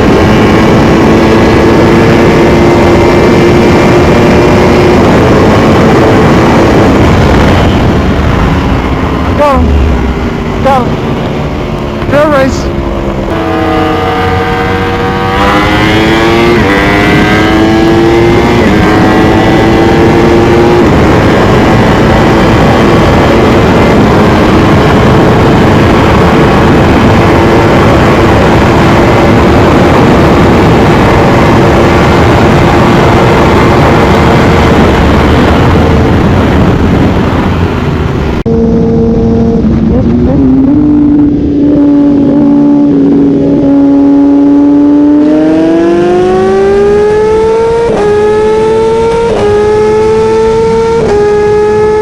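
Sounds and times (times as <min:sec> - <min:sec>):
heavy rush of noise: 0:00.0 - 0:52.0
motorcycle engine accelerating: 0:00.0 - 0:52.0.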